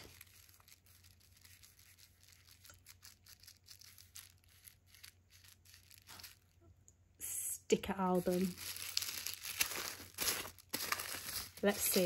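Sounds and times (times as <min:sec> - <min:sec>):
packaging crinkling and rustling: 0:00.0 - 0:06.6, 0:08.0 - 0:12.0.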